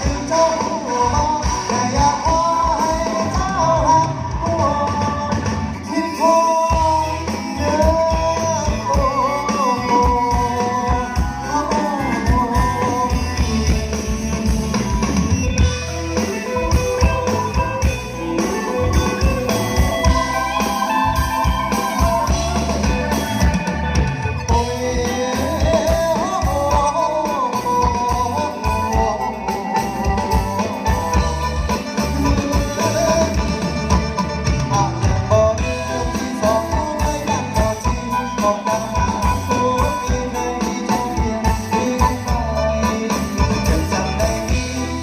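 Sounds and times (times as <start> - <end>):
live band playing: 0.0 - 45.0.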